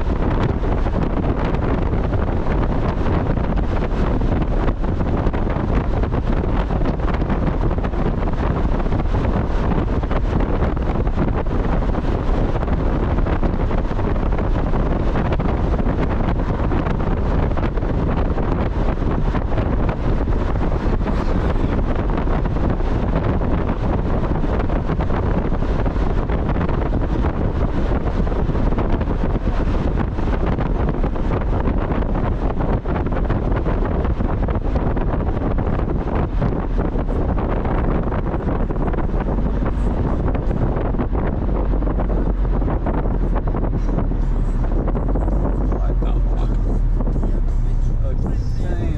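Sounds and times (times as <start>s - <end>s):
car road and engine noise: 0.0s - 48.9s
wind buffeting microphone: 0.0s - 48.9s.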